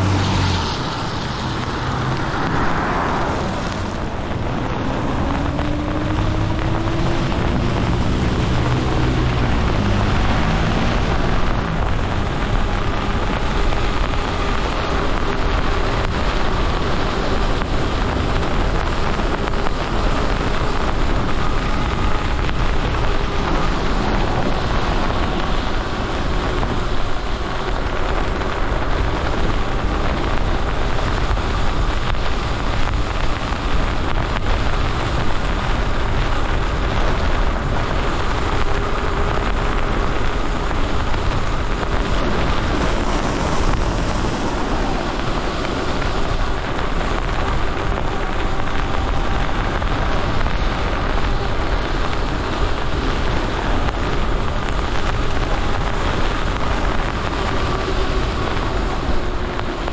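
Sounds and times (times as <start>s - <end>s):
tyres hissing on wet road: 0.0s - 59.9s
wind buffeting microphone: 0.0s - 59.9s.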